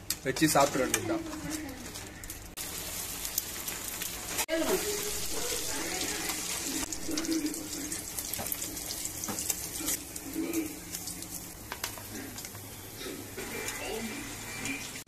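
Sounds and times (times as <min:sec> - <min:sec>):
fish deep-frying in oil: 0:01.8 - 0:15.0.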